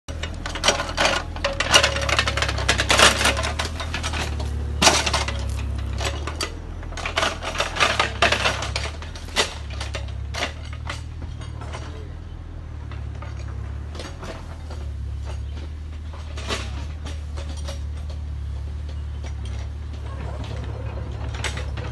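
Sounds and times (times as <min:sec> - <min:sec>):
diesel engine humming: 0:00.0 - 0:21.9
metal clinks and scrapes: 0:00.1 - 0:21.9.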